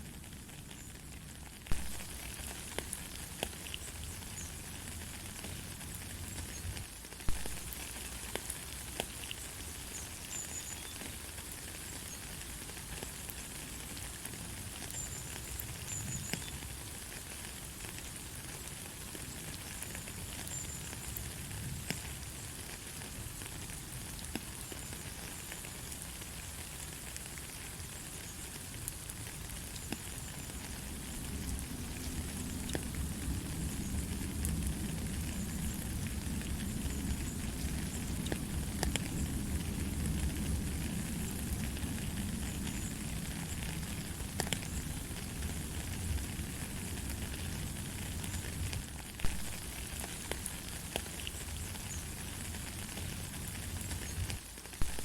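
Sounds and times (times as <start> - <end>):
light rain hiss: 0.0 - 55.0.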